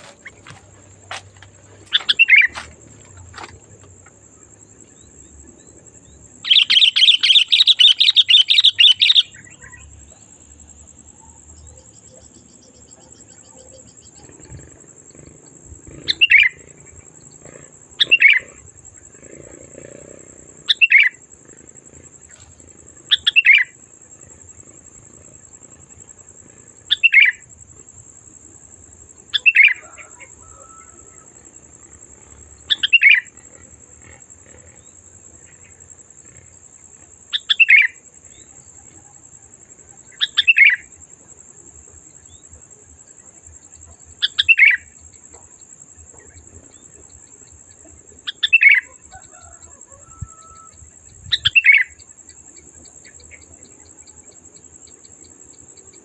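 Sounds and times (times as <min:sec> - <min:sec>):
bird singing: 0:00.0 - 0:27.6, 0:29.0 - 0:56.0.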